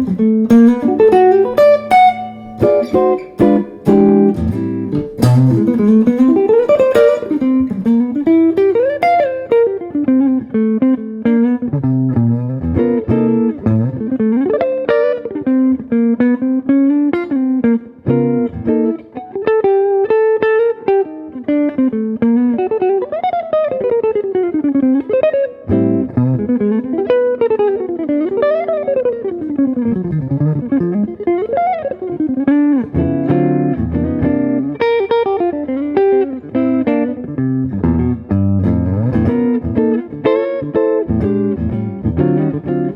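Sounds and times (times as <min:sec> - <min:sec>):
jazz electric guitar: 0:00.0 - 0:42.9.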